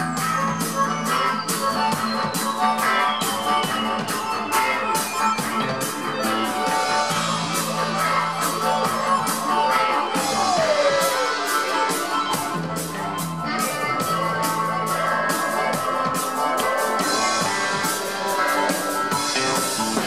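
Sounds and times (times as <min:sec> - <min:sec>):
bass guitar: 0:00.0 - 0:20.0
drum kit with cymbal strokes: 0:00.0 - 0:20.0
electric guitar: 0:00.0 - 0:20.0
electronic keyboards: 0:00.0 - 0:20.0
harmonica: 0:00.0 - 0:20.0.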